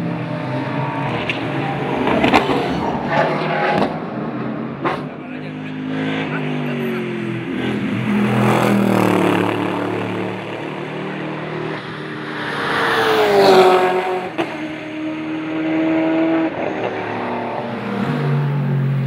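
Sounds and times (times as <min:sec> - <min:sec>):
race car passing by: 0:00.0 - 0:19.0
race cars at full throttle: 0:00.0 - 0:19.0.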